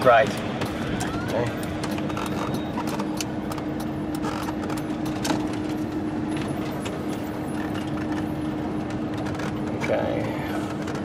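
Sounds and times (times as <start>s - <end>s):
engine hum: 0.0s - 11.0s
clicks and rattles: 0.2s - 11.0s.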